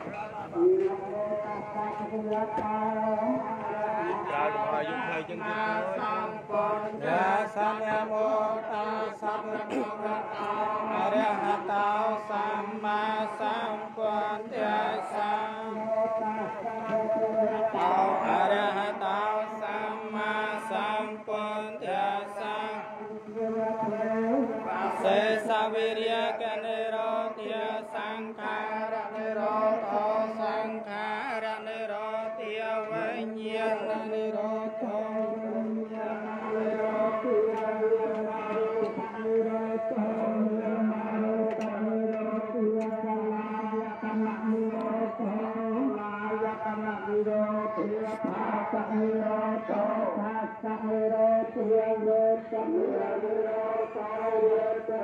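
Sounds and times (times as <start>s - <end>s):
person chanting: 0.0s - 55.0s.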